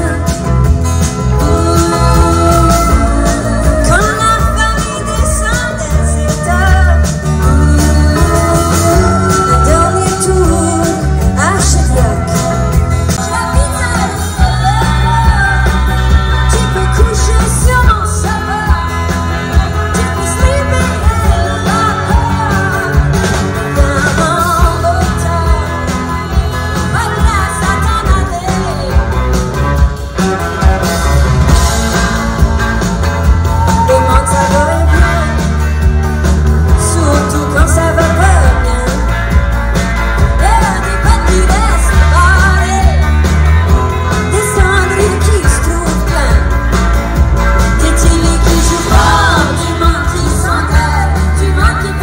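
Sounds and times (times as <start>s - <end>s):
person singing lead vocal: 0.0s - 29.7s, 33.4s - 35.8s, 36.6s - 39.4s, 40.2s - 43.4s, 44.0s - 46.8s, 47.7s - 52.0s
rock bass and drum beat: 0.0s - 52.0s.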